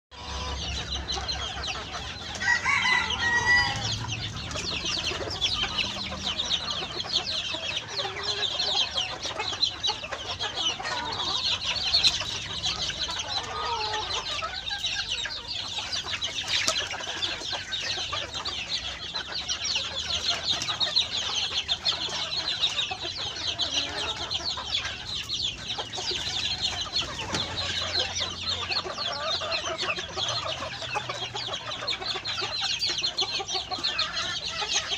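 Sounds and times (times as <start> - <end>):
chickens clucking and calling: 0.1 - 34.9
high chattering chirp: 0.2 - 34.9.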